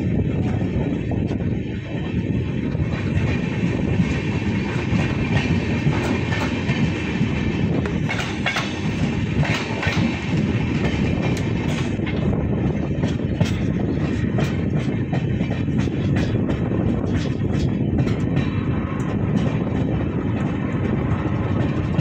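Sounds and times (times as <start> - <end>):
train wheels rumbling on rails: 0.0 - 22.0
train wheels clicking: 2.6 - 22.0.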